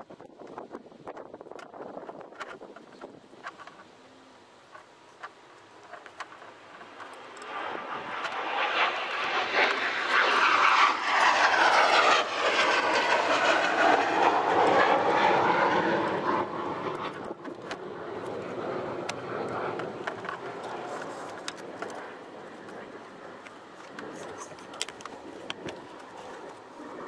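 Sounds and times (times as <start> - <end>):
airplane passing overhead: 0.0 - 27.0.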